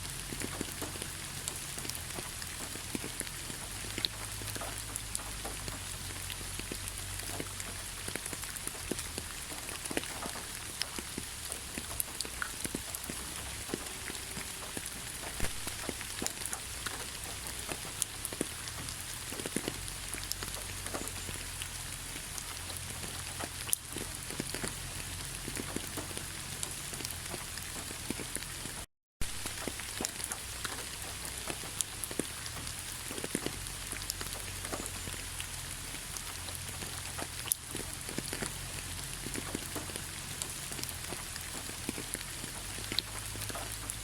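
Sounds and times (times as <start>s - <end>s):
raindrop splats: 0.0s - 44.0s
heavy rain hissing: 0.2s - 44.0s.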